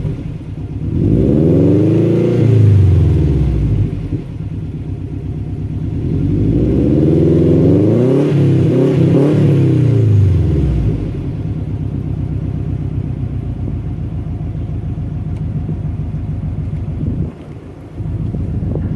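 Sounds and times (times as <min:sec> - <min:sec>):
car exhaust revving and idling: 0:00.0 - 0:18.9.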